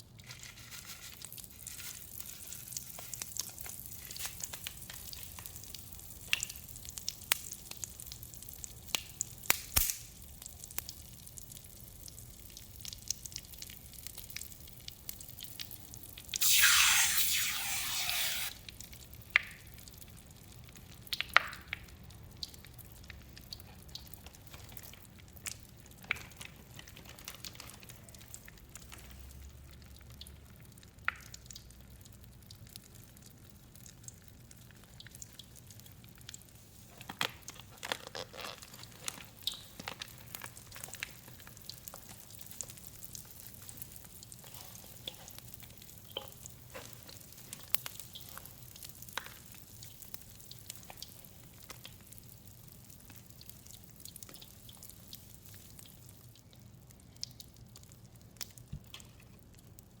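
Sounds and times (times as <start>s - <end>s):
bath crackles popping: 0.1s - 19.0s, 30.6s - 60.0s.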